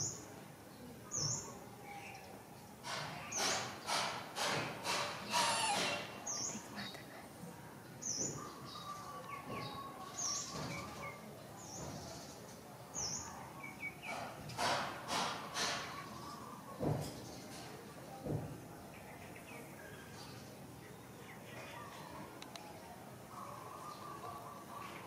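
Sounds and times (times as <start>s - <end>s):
small birds chirping: 0.0s - 4.2s, 5.1s - 14.6s, 15.6s - 18.1s, 18.7s - 25.0s.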